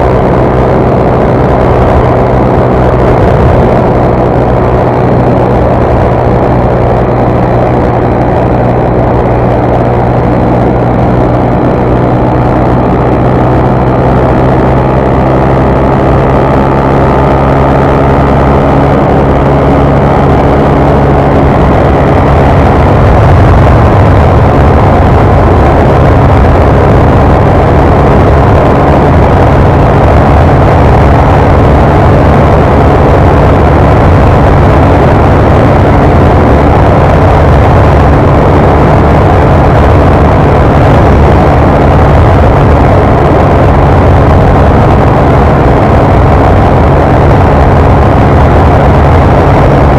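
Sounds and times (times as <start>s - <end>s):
motorcycle engine running hard: 0.0s - 49.9s.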